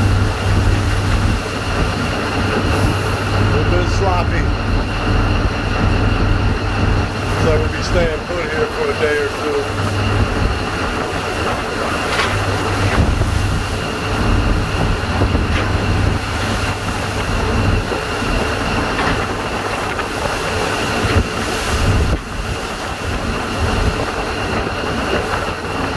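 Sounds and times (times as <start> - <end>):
low rumble: 0.0 - 25.6
seawater washing over deck: 0.0 - 25.9
storm wind blowing: 0.0 - 25.9.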